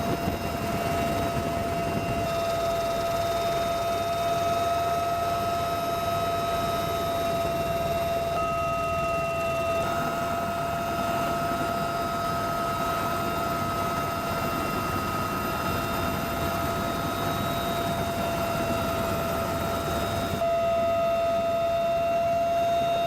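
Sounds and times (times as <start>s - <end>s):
turbine aircraft engines whining: 0.0s - 23.0s.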